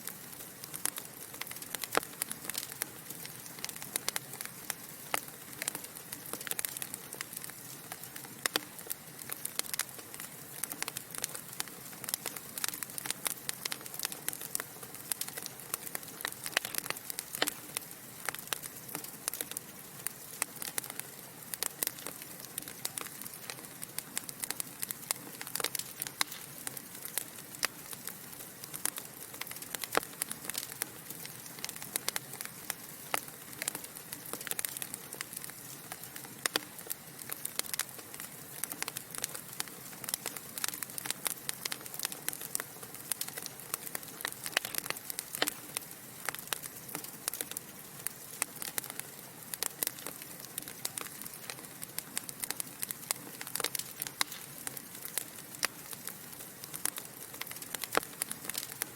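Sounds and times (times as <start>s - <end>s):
soft fire hiss: 0.0s - 58.9s
wood fire crackling: 0.0s - 58.9s.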